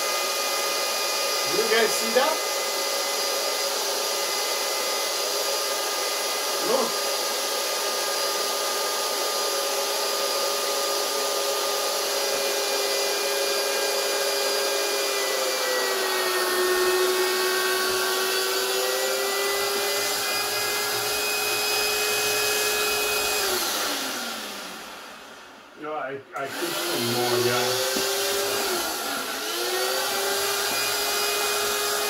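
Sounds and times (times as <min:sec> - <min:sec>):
electric air pump whining: 0:00.0 - 0:32.0.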